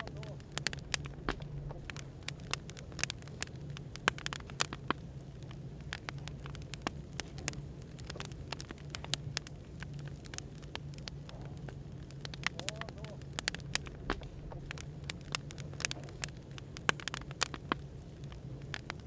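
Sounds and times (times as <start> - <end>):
cafe background hum: 0.0 - 19.0
wood fire crackling: 0.0 - 19.0.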